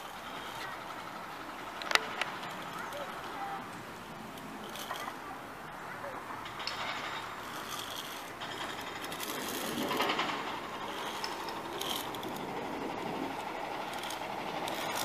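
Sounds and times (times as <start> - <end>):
pulley trolley rattling on cable: 0.0 - 15.0.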